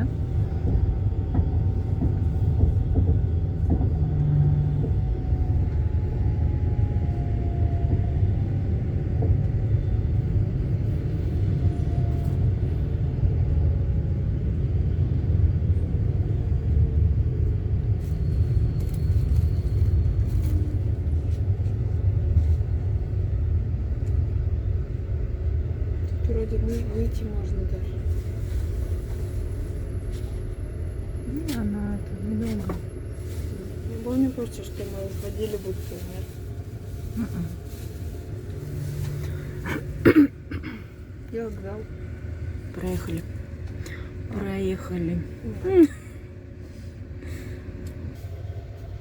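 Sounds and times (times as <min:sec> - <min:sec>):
vehicle rumble from inside: 0:00.0 - 0:49.0.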